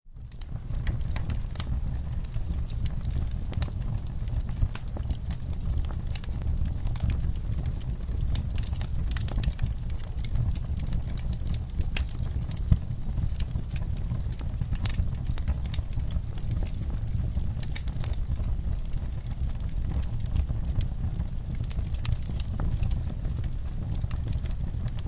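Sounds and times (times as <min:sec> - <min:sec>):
low rumble of flames: 0:00.0 - 0:25.0
wood fire crackling: 0:00.1 - 0:25.0.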